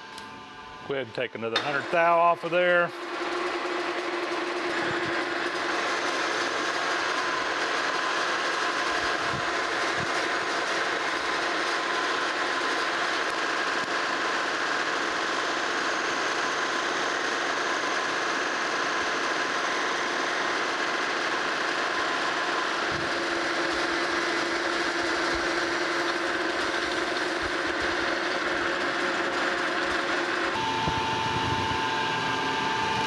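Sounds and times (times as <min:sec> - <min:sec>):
metal lathe cutting: 0:00.0 - 0:33.0.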